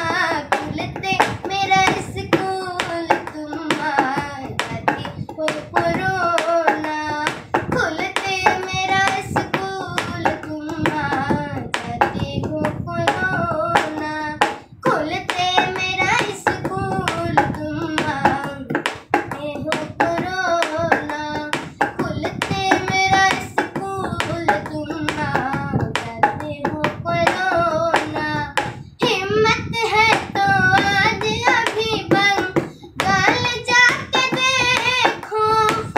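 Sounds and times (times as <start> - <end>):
boy singing: 0.0 - 35.9
hand tapping a beat: 0.0 - 35.9.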